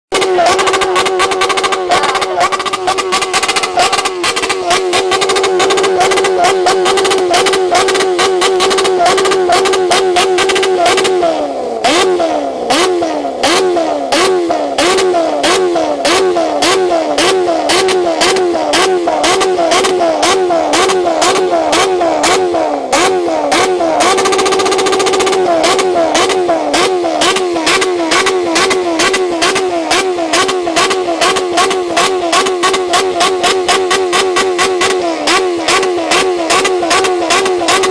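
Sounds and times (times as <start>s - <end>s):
motorcycle engine at rev limiter: 0.0s - 37.9s
exhaust cracking: 0.1s - 37.9s.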